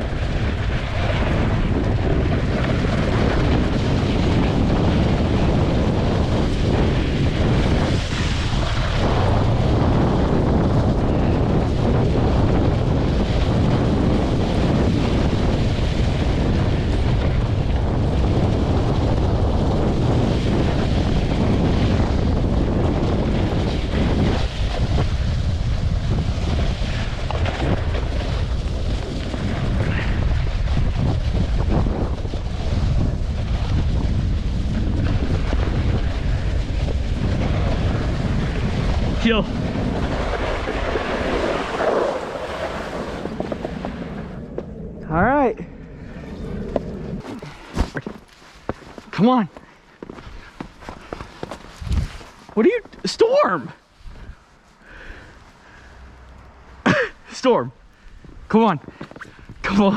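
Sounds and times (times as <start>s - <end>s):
snowboard sliding over snow: 0.0s - 56.0s, 56.7s - 57.7s
wind rushing over microphone: 0.0s - 59.9s.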